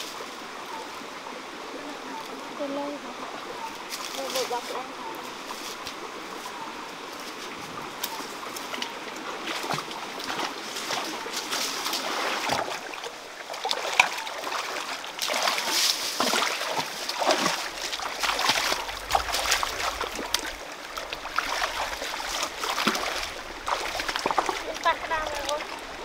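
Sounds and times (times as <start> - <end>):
stream flowing: 0.0 - 26.0
water splashing: 0.0 - 26.0.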